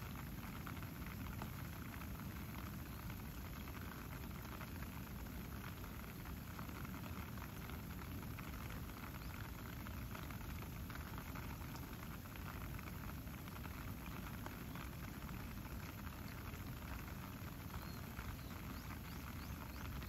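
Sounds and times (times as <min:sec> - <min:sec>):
light rain pattering on grass: 0:00.0 - 0:20.0.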